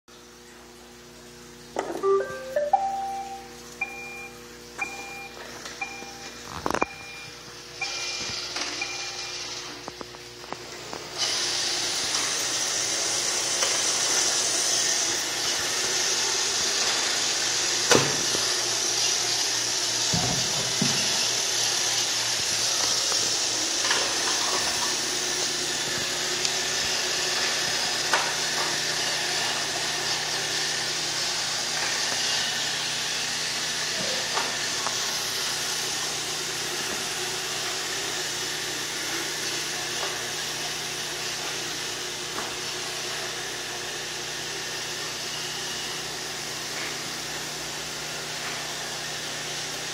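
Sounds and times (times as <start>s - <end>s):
robot vacuum whirring: 7.8s - 49.7s.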